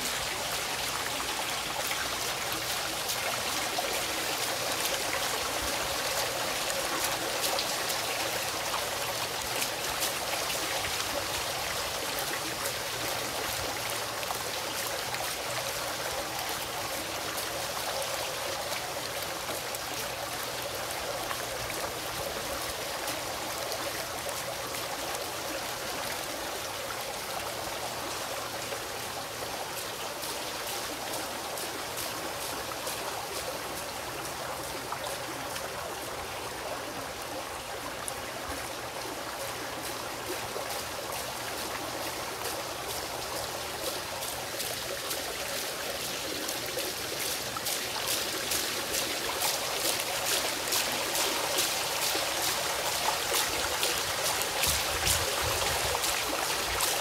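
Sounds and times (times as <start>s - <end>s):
fountain water splashing: 0.0s - 57.0s.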